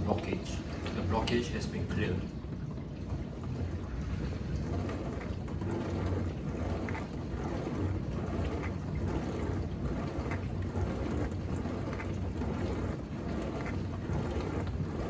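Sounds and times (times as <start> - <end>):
dishwasher water spraying: 0.0 - 2.3, 3.0 - 15.0.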